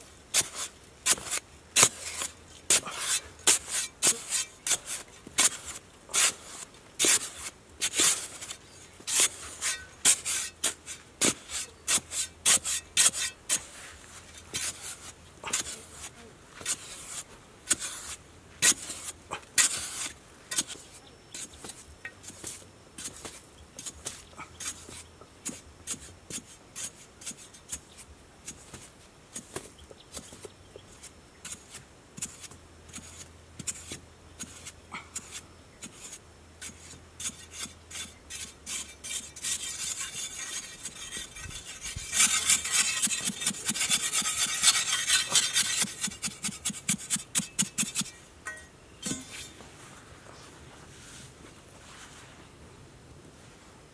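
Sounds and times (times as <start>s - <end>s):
metal blade digging sandy soil: 0.0s - 49.6s.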